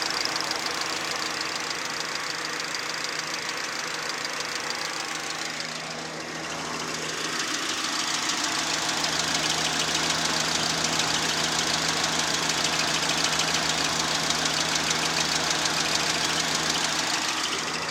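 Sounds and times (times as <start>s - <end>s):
car engine idling with knock: 0.0s - 17.9s.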